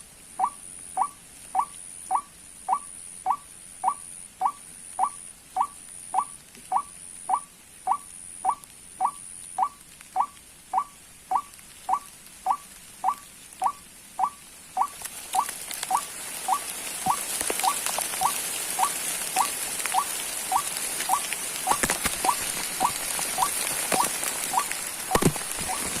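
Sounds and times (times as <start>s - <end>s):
hiss with scattered clicks: 0.0s - 26.0s.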